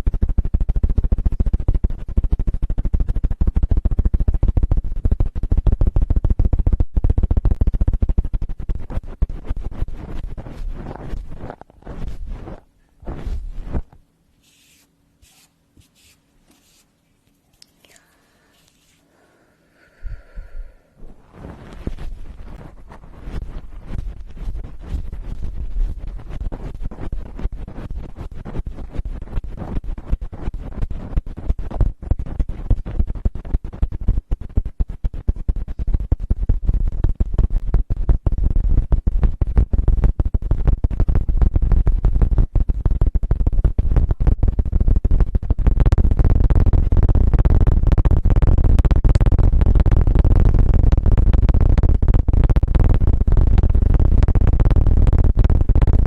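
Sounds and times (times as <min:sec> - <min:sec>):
choppy rumble on microphone: 0:00.0 - 0:14.8, 0:19.8 - 0:56.0.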